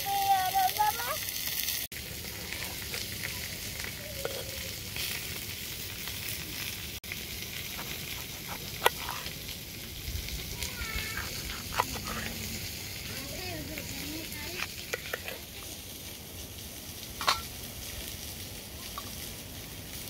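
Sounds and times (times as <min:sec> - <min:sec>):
steak sizzling: 0:00.0 - 0:20.0.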